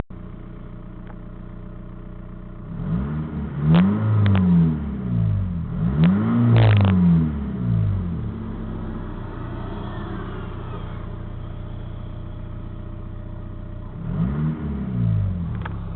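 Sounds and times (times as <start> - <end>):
diesel engine idling and revving: 0.0 - 15.9.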